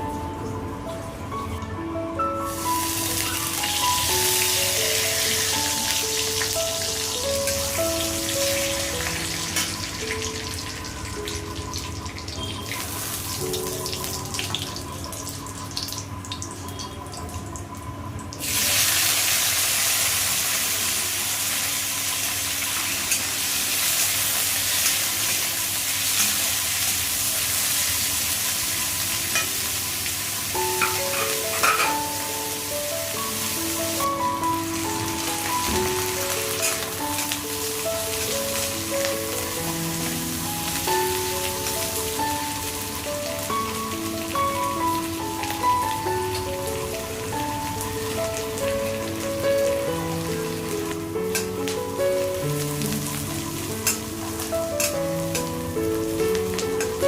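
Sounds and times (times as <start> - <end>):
light background music: 0.0 - 57.0
potatoes sizzling in hot oil: 2.5 - 17.2, 18.4 - 57.0.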